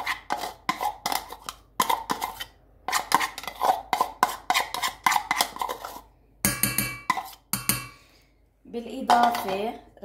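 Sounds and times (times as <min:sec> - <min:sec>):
spoon scraping and tapping bowl: 0:00.0 - 0:08.1, 0:09.0 - 0:09.8.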